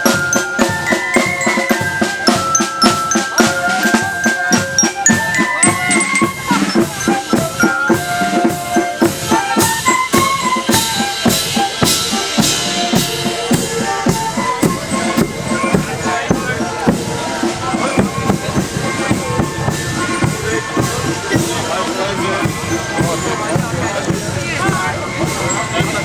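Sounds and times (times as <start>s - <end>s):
drums steady beat: 0.0s - 26.0s
marching band playing: 0.0s - 26.0s.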